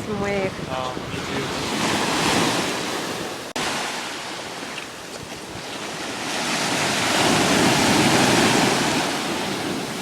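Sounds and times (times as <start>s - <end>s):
ocean surf waves: 0.0s - 10.0s
wind buffeting microphone: 0.0s - 10.0s.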